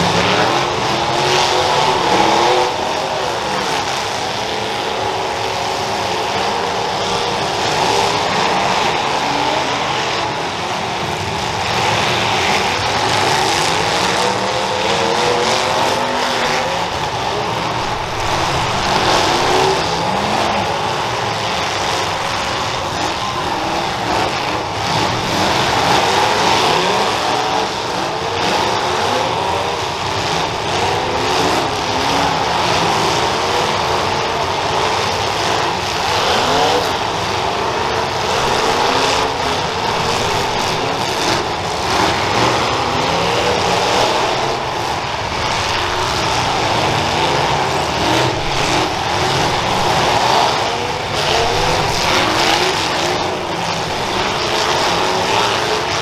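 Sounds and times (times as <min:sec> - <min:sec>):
car engines revving hard: 0:00.0 - 0:56.0.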